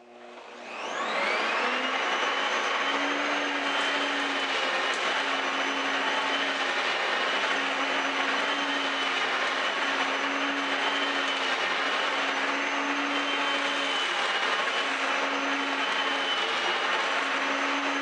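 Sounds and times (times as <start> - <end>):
vacuum cleaner motor running: 0.0 - 18.0.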